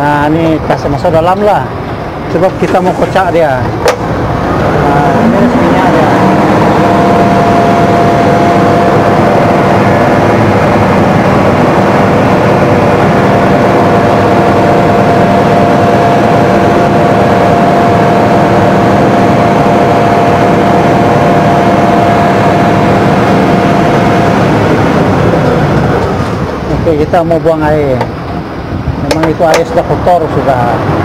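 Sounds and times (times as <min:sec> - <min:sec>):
diesel engine at raised revs: 0:00.0 - 0:31.0
steady whine of mixer drum: 0:00.0 - 0:31.0.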